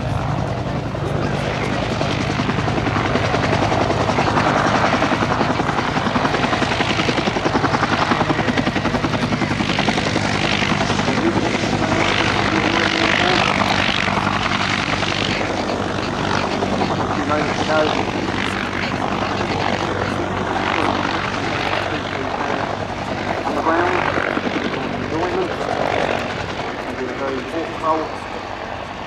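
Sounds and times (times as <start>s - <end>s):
helicopter engine and rotor drone: 0.0s - 29.0s.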